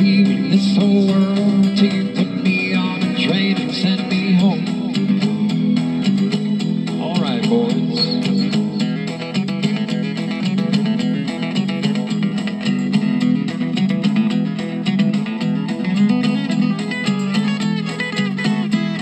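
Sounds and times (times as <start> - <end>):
picked guitar notes: 0.0 - 19.0
strummed guitar chords: 0.0 - 19.0.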